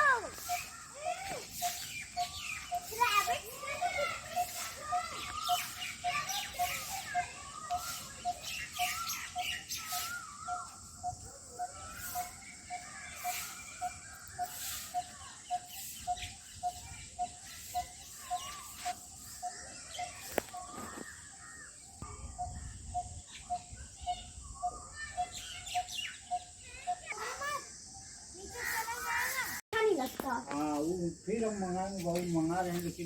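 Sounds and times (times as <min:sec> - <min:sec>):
birds chirping and twittering: 0:00.0 - 0:33.0.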